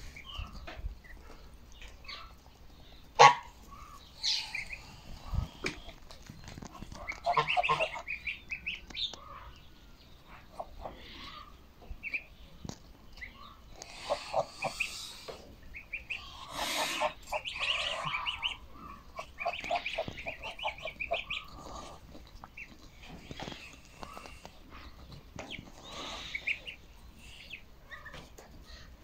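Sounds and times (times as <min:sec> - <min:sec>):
goslings peeping: 0:00.0 - 0:29.0.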